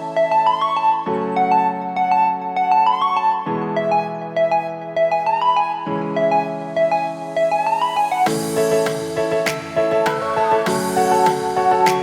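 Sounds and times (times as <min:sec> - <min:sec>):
soft electric piano melody: 0:00.0 - 0:12.0.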